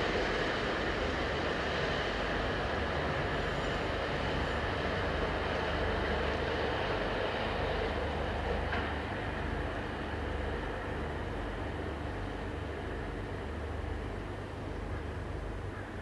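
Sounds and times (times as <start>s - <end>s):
train rumbling along track: 0.0s - 16.0s.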